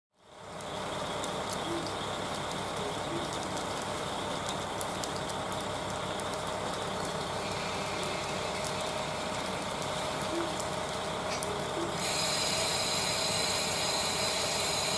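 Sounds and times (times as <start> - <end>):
diesel engine idling: 0.2 - 14.9.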